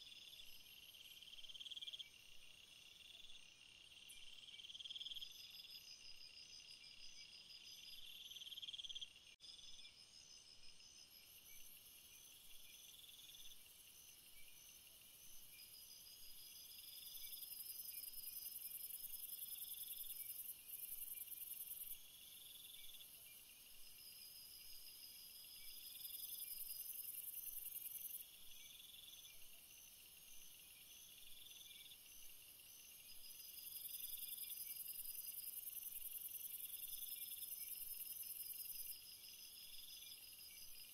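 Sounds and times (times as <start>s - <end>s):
insect chirping trills: 0.0s - 40.9s.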